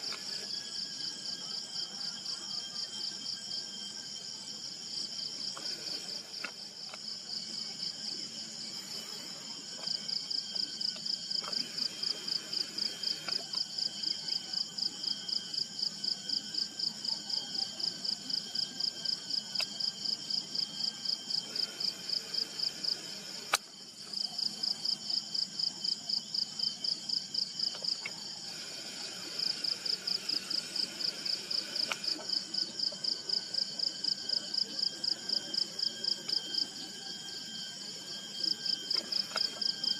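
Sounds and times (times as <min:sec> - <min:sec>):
insect pulsing trill: 0:00.0 - 0:39.9
insects trilling: 0:00.0 - 0:39.9.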